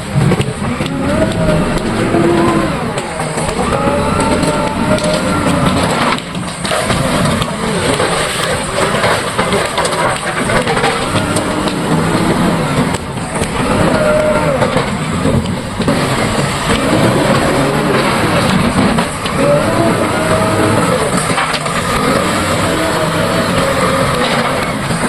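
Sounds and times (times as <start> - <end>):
backhoe diesel engine under load: 0.0 - 25.0.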